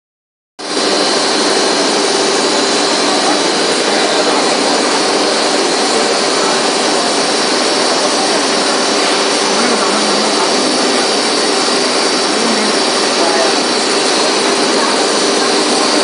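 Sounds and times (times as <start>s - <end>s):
low machine hum: 0.6s - 16.0s
machining center hiss and whine: 0.6s - 16.0s.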